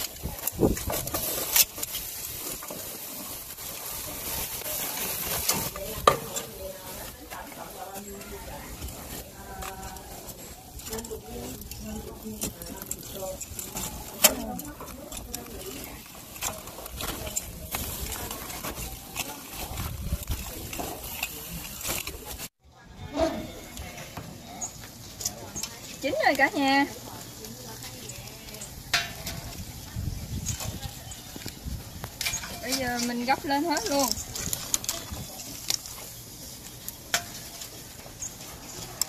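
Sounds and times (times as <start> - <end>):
food sizzling on a grill: 0.0 - 22.5, 23.6 - 39.0.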